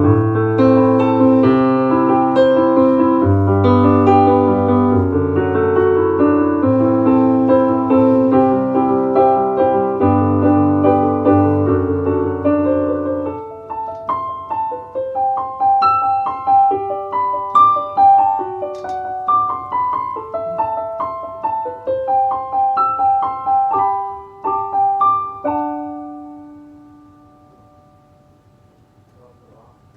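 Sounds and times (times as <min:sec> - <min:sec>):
piano chords and melody: 0:00.0 - 0:29.3.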